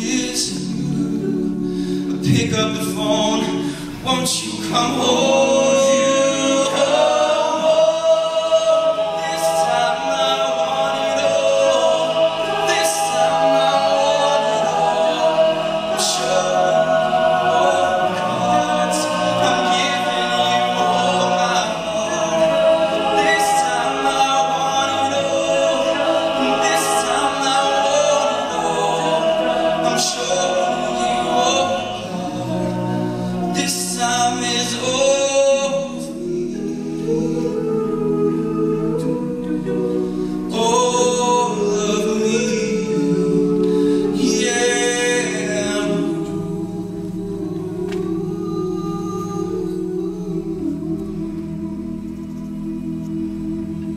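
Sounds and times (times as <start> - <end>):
male a cappella group singing: 0.0 - 53.9.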